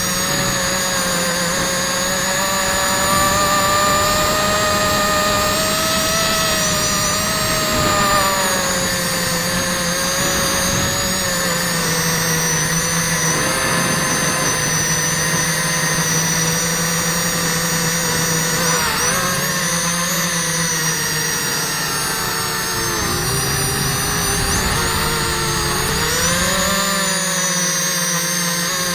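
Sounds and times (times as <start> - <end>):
drone propellers whining: 0.0 - 28.9.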